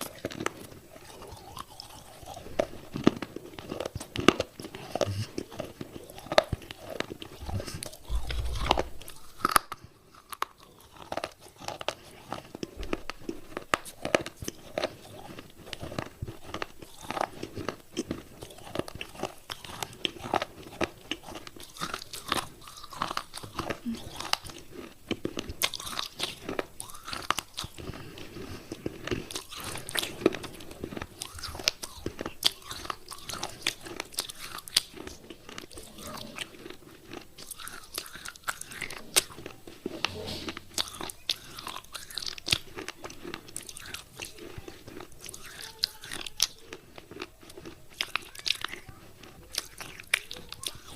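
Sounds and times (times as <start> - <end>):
chewing crunchy clay: 0.0 - 50.9.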